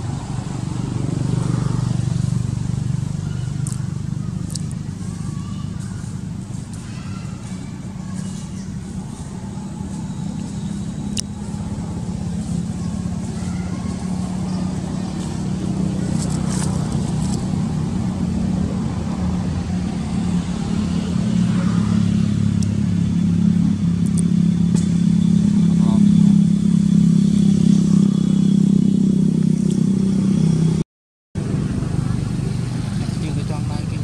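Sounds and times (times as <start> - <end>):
vehicle engine humming: 0.0 - 30.8, 31.4 - 34.0.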